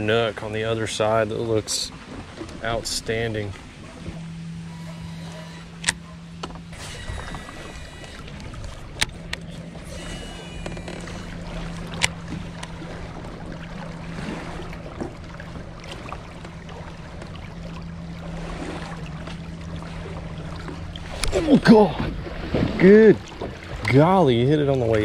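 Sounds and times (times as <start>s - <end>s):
electric trolling motor humming: 0.0s - 25.0s
water: 0.0s - 25.0s
wind: 0.0s - 25.0s.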